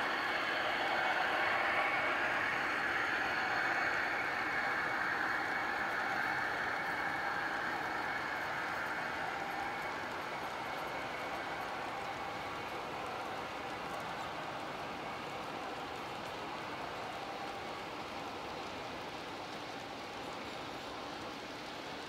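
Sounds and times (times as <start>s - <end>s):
model train rolling with faint whine: 0.0s - 22.0s.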